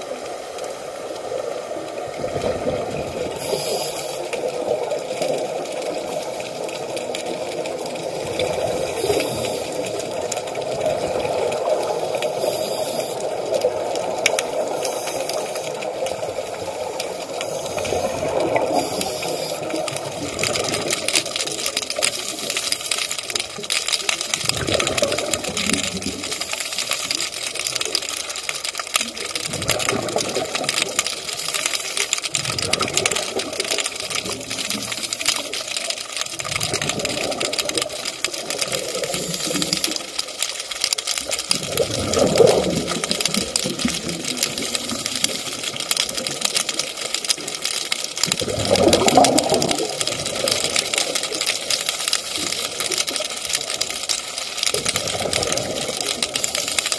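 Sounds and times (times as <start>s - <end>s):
crackle of fine clicks: 0.0s - 56.9s
underwater regulator bubbles: 0.0s - 56.9s.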